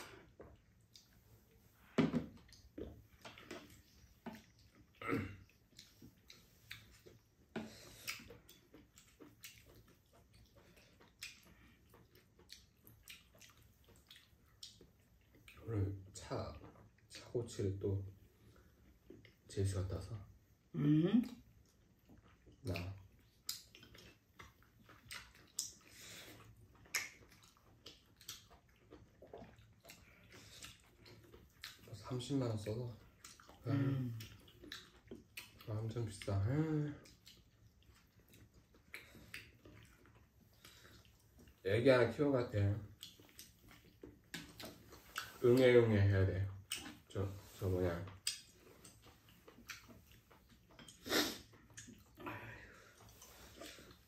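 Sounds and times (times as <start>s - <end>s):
slurping and chewing: 0.0s - 54.0s.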